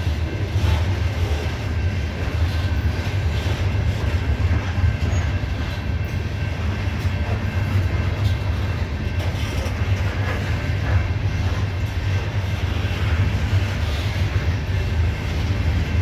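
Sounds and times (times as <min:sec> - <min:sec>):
train cars rumbling on rails: 0:00.0 - 0:16.0.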